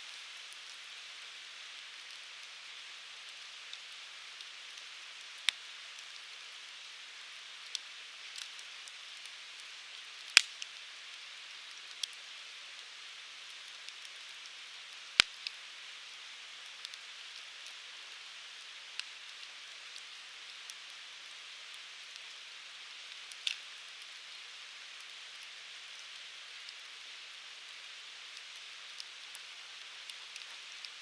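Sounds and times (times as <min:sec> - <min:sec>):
fire hissing and crackling: 0:00.0 - 0:31.0.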